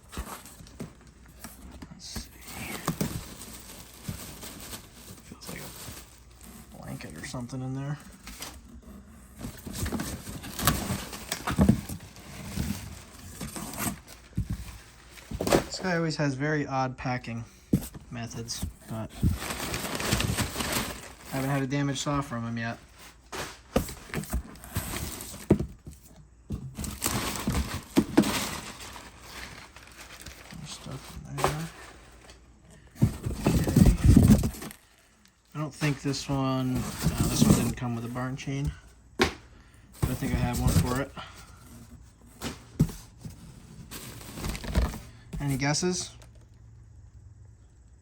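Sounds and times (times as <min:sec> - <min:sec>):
box and padding rustling: 0:00.0 - 0:16.1, 0:17.5 - 0:46.5.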